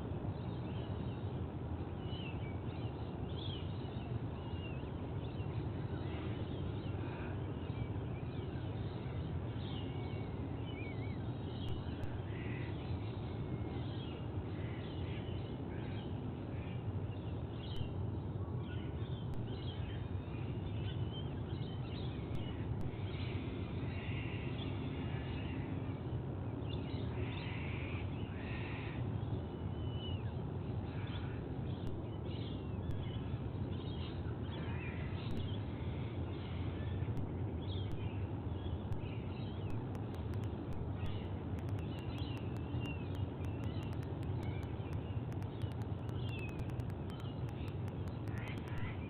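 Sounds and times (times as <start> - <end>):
low background rumble: 0.0 - 49.0.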